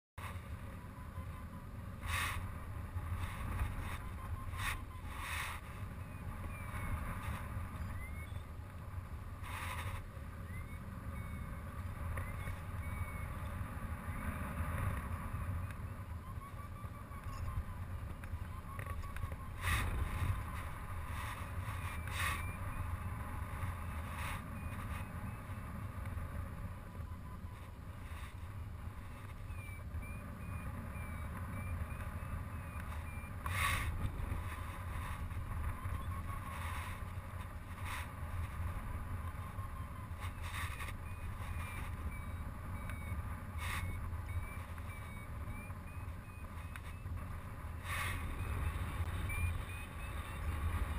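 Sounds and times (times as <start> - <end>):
variometer beeps: 0.2 - 50.9
wind buffeting camera: 0.2 - 50.9.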